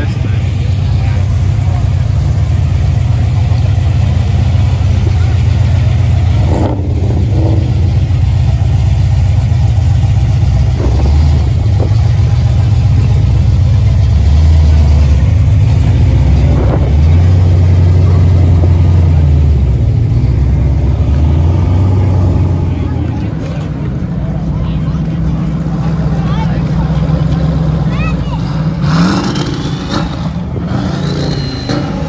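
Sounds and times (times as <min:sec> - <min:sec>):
car engine exhaust rumble: 0:00.0 - 0:32.0.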